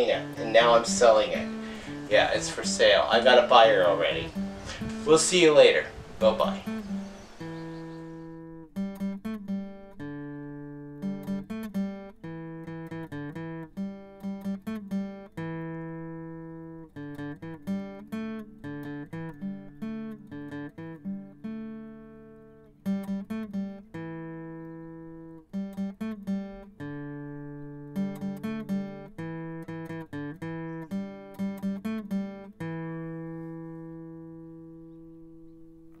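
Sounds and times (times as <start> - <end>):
acoustic guitar plucked notes: 0.0 - 36.0.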